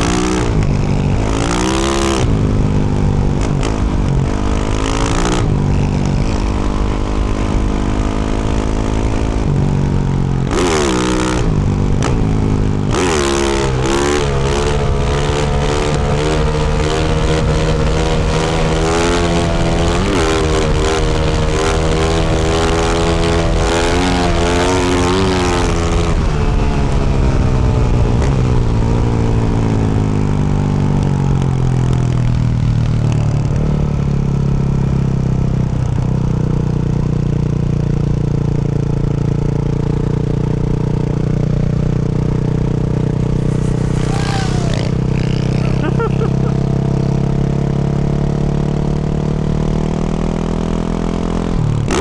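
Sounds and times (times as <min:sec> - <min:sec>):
dirt bike engine revving and idling: 0:00.0 - 0:52.0.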